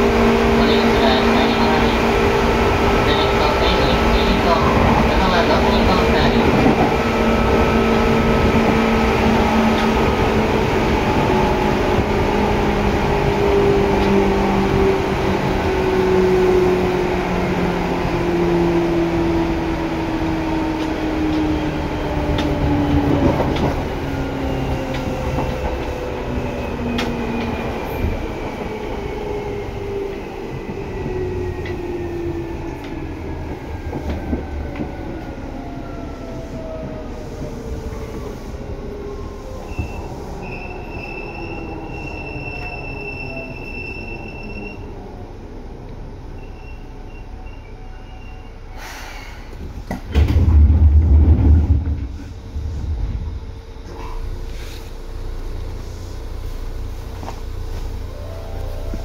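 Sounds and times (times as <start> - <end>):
wheel and rail rumble: 0.0 - 59.0.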